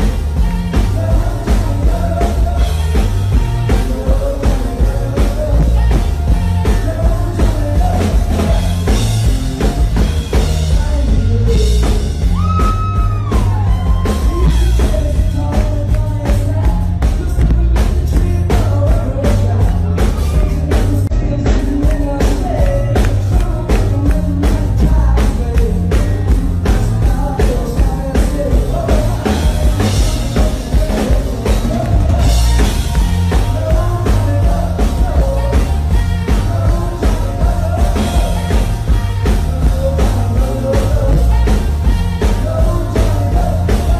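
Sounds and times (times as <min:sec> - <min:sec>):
drum kit beat: 0:00.0 - 0:43.9
man singing lead vocal: 0:00.0 - 0:43.9.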